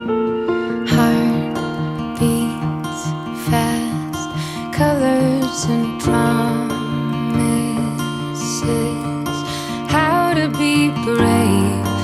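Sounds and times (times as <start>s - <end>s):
gentle plucked music: 0.0s - 12.0s.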